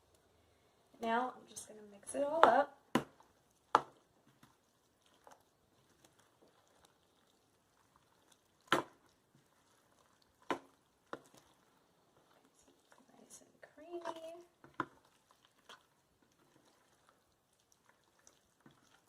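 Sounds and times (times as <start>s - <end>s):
faint stirring: 0.0s - 19.0s.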